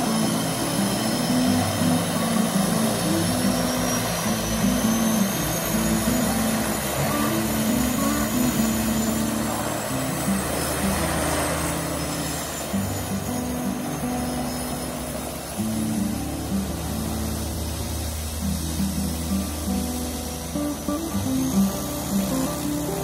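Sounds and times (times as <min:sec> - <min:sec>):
turboprop engines running: 0:00.0 - 0:23.0.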